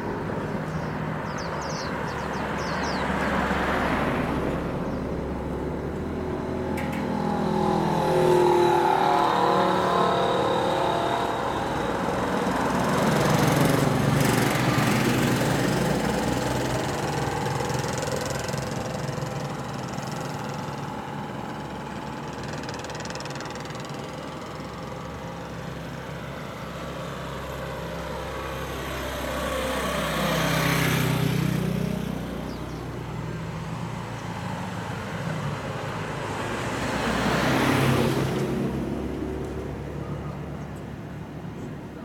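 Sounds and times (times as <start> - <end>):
low engine hum: 0.0 - 42.0
road vehicles passing: 0.0 - 42.0.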